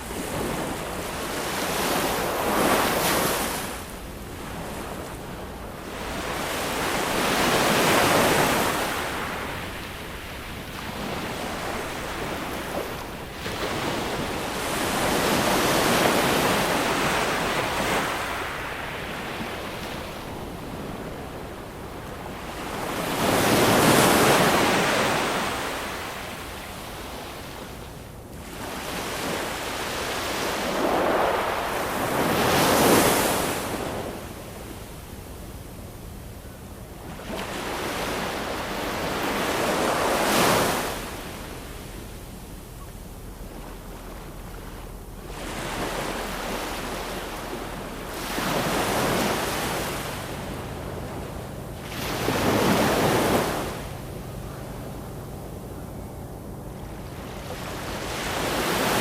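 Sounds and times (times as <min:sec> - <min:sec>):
ocean waves breaking: 0:00.0 - 0:59.0
surf hiss: 0:00.0 - 0:59.0.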